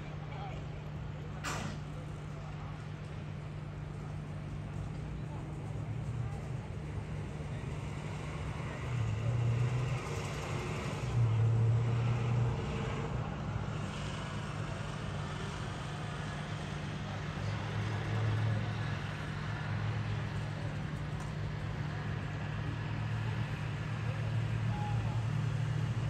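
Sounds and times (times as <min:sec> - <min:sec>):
distant road traffic: 0:00.0 - 0:26.0.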